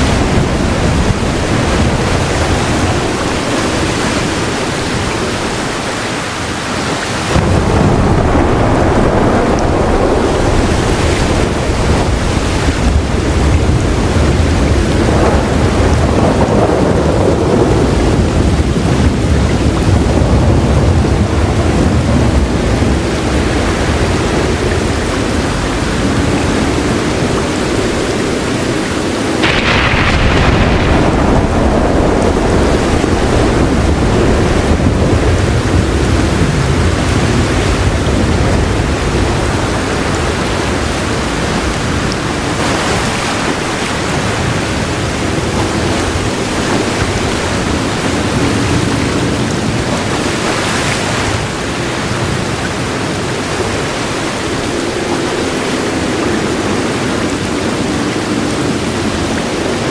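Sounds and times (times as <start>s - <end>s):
heavy rain pouring: 0.0s - 59.9s
thunder rumbling: 0.0s - 59.9s.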